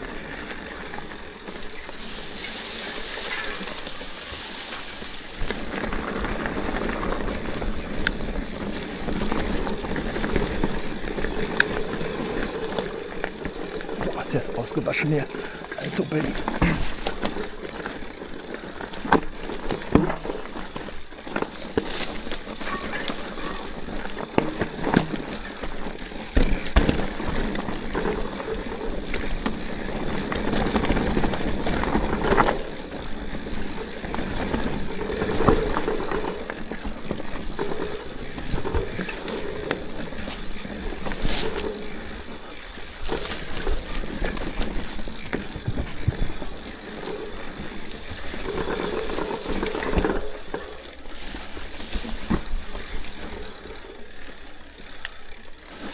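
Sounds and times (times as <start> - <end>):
bike tyres crunching on dirt: 0.0 - 55.9
bike knocks and rattles: 0.1 - 55.9.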